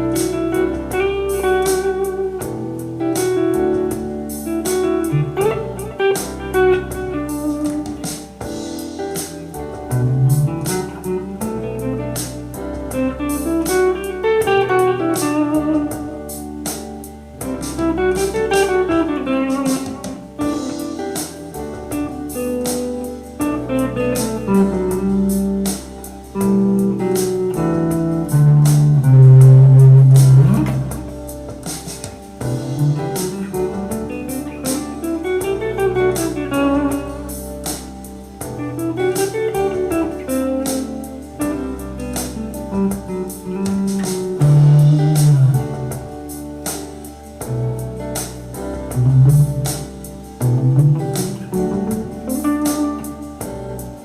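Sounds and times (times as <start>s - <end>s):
backing track with drums and bass: 0.0s - 54.0s
electric guitar lead lines: 0.0s - 54.0s.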